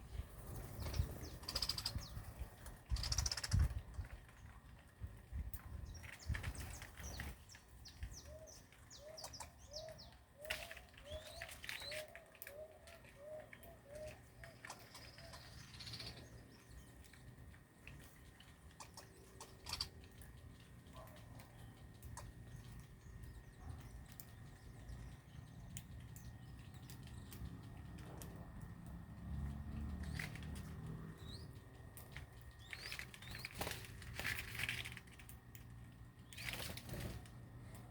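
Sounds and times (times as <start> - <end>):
birds chirping: 0.0 - 37.9
scattered clicks: 0.4 - 37.9.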